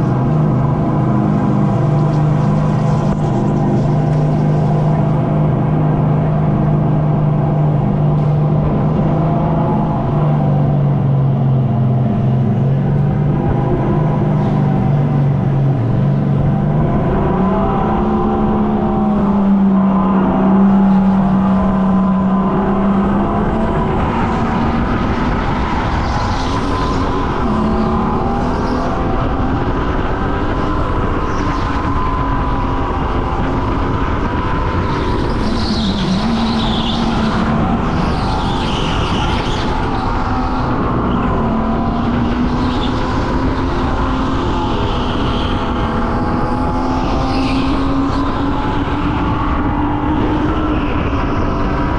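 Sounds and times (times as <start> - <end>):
go-kart engine running hard: 0.0 - 51.9.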